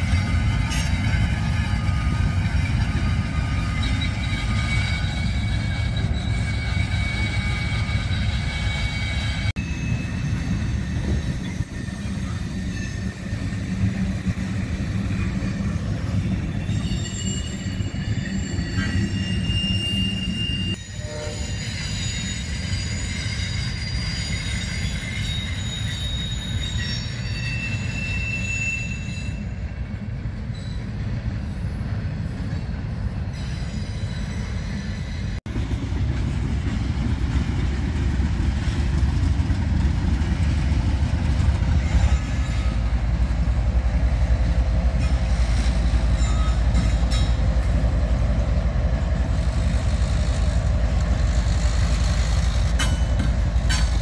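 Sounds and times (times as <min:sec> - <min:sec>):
diesel locomotive engine rumble: 0:00.0 - 0:54.0
train wheel squeal: 0:00.0 - 0:54.0
train wheels rumbling on rails: 0:00.0 - 0:54.0.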